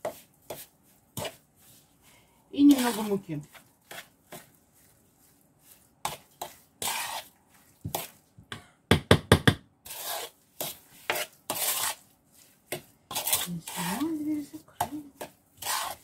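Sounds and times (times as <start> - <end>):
spoon mashing mixture in bowl: 0.0 - 2.0, 2.6 - 8.6, 9.8 - 16.0.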